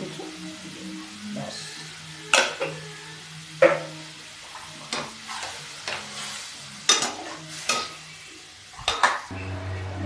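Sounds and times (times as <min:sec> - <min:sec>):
food sizzling: 0:00.0 - 0:10.0.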